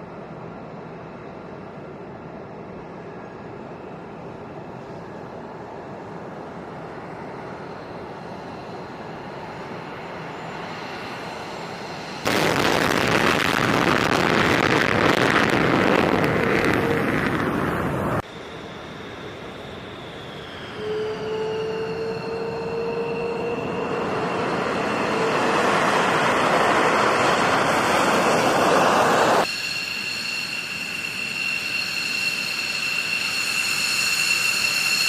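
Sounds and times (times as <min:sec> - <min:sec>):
jet engines whining: 0:00.3 - 0:35.0
jet takeoff roar: 0:00.3 - 0:35.0.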